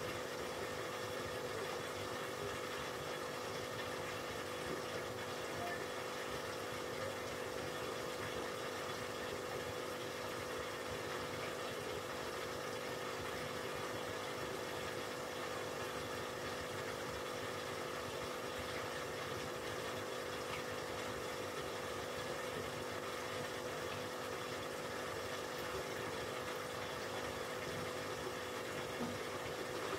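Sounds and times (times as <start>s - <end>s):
aquarium air pump humming: 0.0s - 29.9s.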